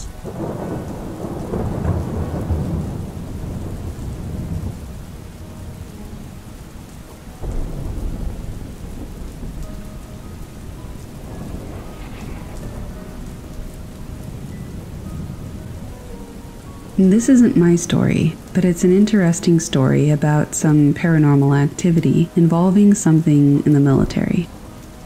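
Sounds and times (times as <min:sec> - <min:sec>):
rolling thunder: 0:00.0 - 0:20.4
steady rain: 0:00.0 - 0:25.0.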